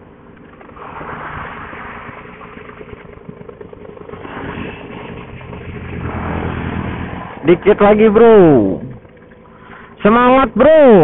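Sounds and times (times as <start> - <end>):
motorcycle engine rumbling: 0.0 - 11.0
road and wind noise: 0.0 - 11.0.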